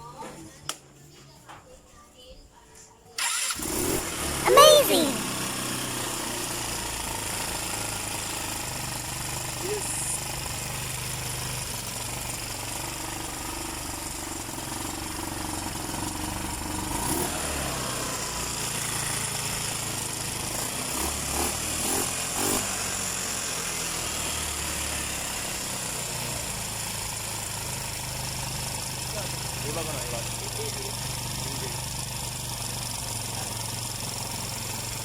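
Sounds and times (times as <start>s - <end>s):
small engine running: 3.2s - 35.0s.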